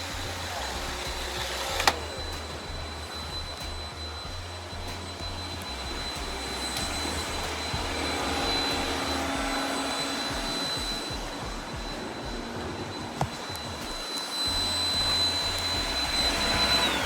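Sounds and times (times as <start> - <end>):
high whine: 0.0 - 17.0
robot vacuum whirring: 0.0 - 17.0.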